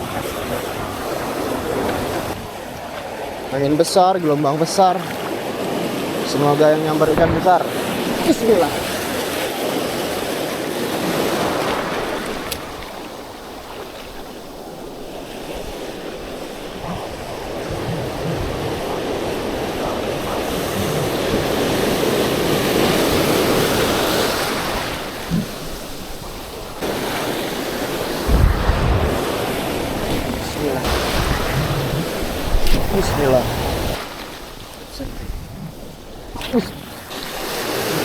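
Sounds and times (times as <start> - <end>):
ocean surf breaking: 0.0 - 38.0
wind buffeting microphone: 5.4 - 38.0.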